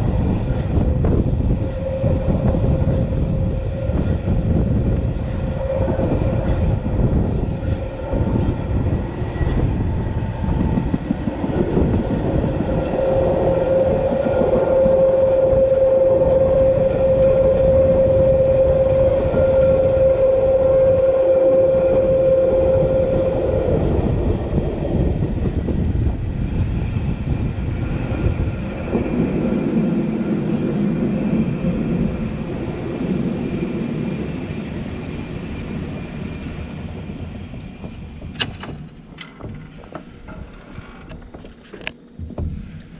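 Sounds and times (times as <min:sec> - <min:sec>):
steady whine: 0:00.0 - 0:42.9
train rumbling: 0:00.0 - 0:42.9.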